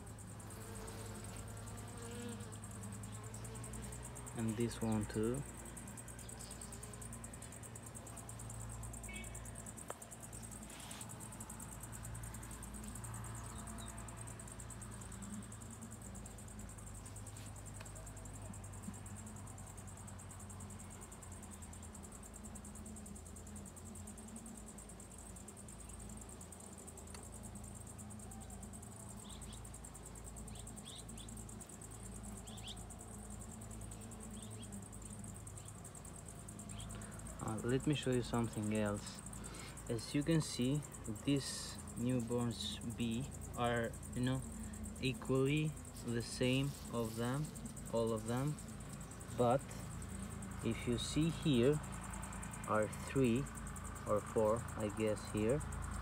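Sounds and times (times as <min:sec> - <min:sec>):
fast-pulsing insect chirr: 0:00.0 - 0:56.0
honeybees humming: 0:00.0 - 0:56.0.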